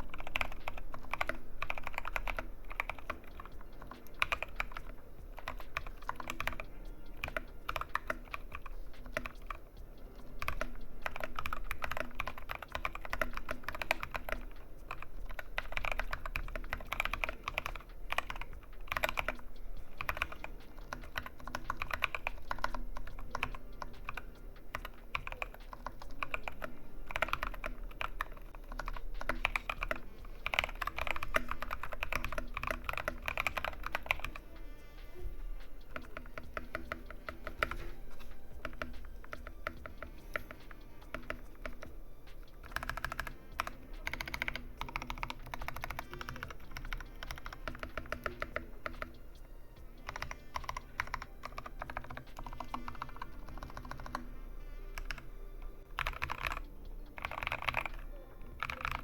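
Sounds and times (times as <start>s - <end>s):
mechanical keyboard typing: 0.0s - 34.6s, 35.6s - 49.4s, 50.0s - 54.3s, 54.9s - 59.0s.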